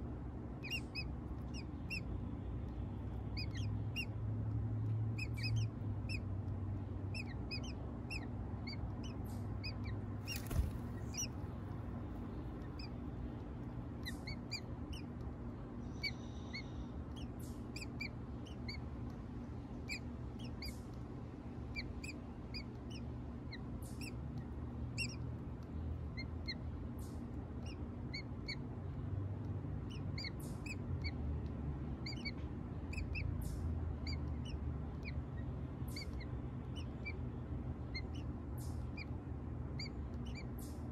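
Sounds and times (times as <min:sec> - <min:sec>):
birds peeping: 0:00.0 - 0:40.9
low steady hum: 0:00.0 - 0:40.9.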